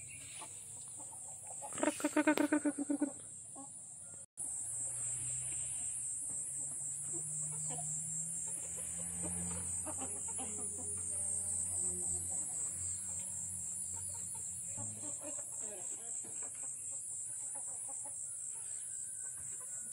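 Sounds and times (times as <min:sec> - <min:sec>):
chickens clucking: 0:00.0 - 0:04.6, 0:05.4 - 0:19.9
insect chorus: 0:00.0 - 0:19.9.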